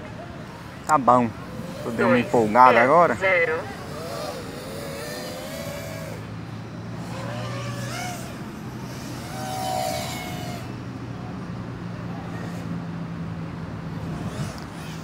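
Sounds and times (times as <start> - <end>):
drone motors whining: 0.0 - 12.8, 13.8 - 15.0
steady low hum: 0.0 - 12.8.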